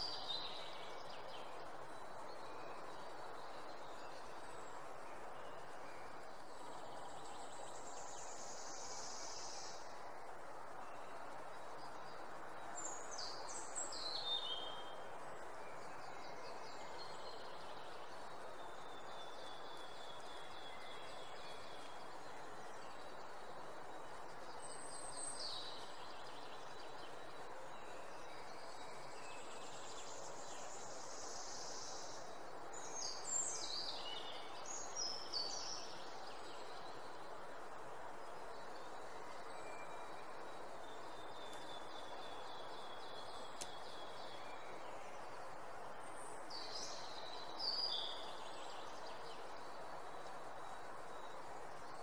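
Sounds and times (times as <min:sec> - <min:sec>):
outdoor ambience hiss: 0:00.0 - 0:52.0.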